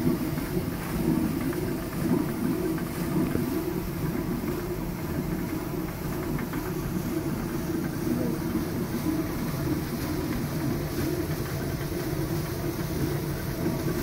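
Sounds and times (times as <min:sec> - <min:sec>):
stone mill low rumble: 0:00.0 - 0:14.0.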